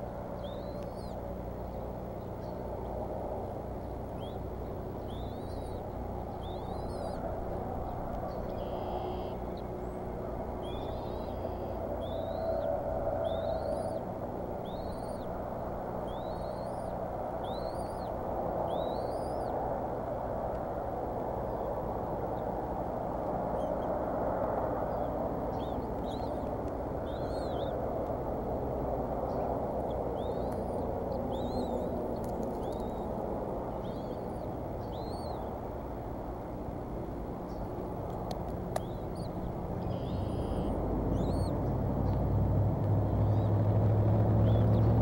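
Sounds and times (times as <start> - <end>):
eaglet chicks peeping: 0.0 - 19.6, 21.3 - 24.0, 24.6 - 35.7, 37.4 - 42.2.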